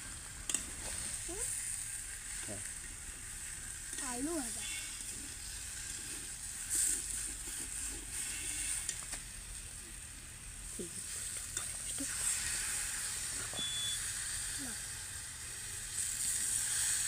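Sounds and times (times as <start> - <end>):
food sizzling in a wok: 0.0 - 17.0
water hissing in hot pan: 0.0 - 17.0.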